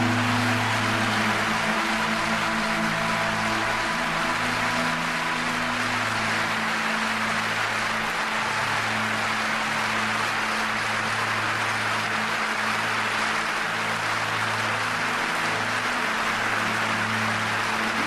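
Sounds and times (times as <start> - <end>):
music with low sustained notes: 0.0 - 18.0
stadium crowd roaring: 0.0 - 18.0.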